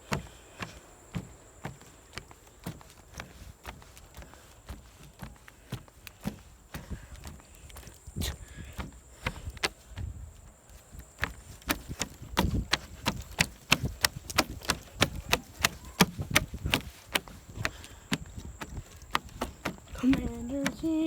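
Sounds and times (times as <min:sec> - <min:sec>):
footsteps on hard surface: 0:00.0 - 0:21.0.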